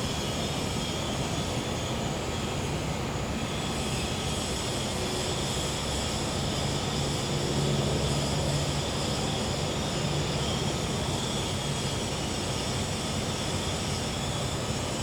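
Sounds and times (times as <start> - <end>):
crickets and cicadas trilling: 0.0 - 15.0.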